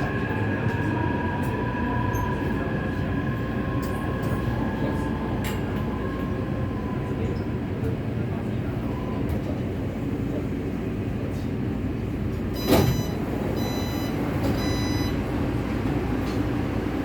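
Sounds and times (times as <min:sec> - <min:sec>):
subway train rumble: 0:00.0 - 0:17.0.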